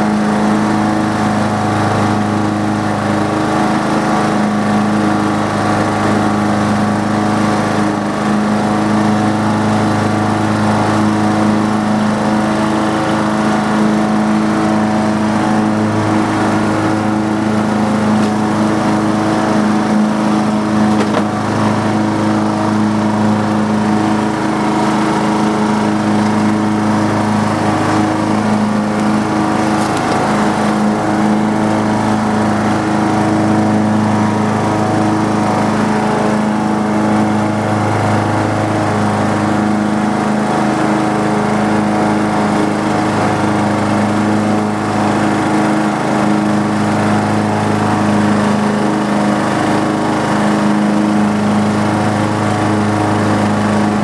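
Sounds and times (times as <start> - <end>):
lawn mower engine drone: 0.0 - 54.0.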